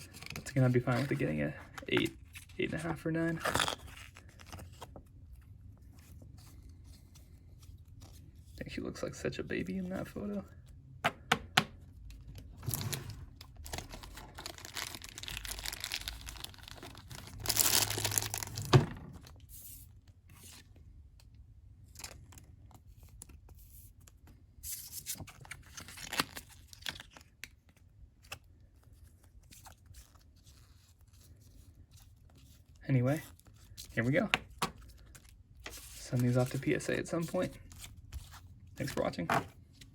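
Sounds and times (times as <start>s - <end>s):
plastic sleeves rustling: 0.0s - 10.8s, 12.0s - 21.2s, 24.9s - 39.9s.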